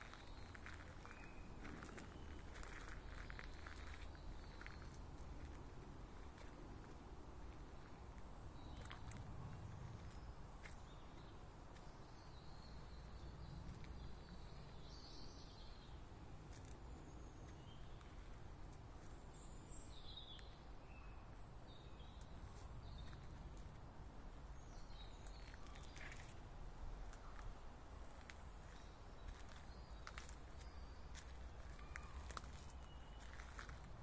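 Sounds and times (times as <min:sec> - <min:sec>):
low woodland rumble: 0:00.0 - 0:33.8
faint birds chirping: 0:00.0 - 0:34.0.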